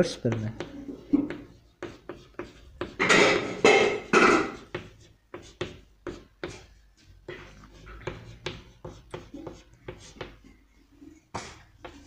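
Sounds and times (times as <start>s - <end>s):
chalk writing on a blackboard: 0.0s - 12.0s.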